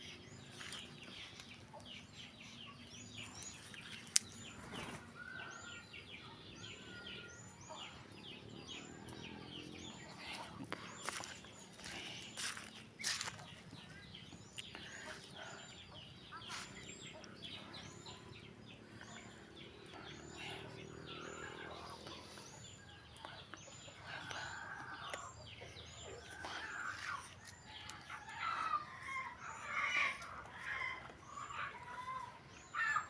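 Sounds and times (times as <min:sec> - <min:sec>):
songbirds calling: 0:00.0 - 0:33.0.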